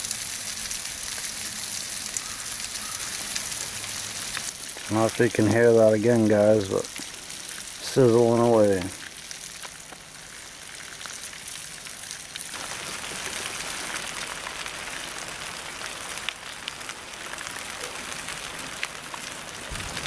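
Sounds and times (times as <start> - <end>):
food sizzling on charcoal: 0.0 - 20.0.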